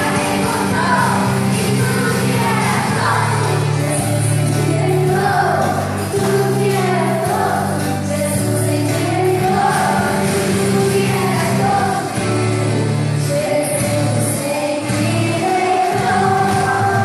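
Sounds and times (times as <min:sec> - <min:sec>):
bass line: 0:00.0 - 0:15.4
person singing: 0:00.0 - 0:17.0.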